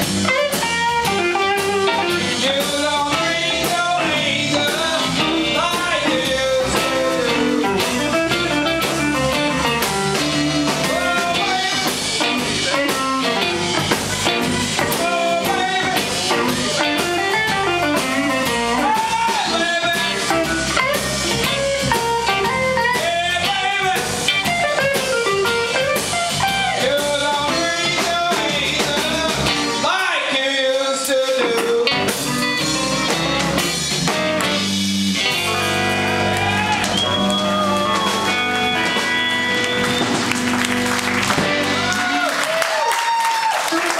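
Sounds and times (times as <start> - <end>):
blues band playing: 0.0 - 43.9.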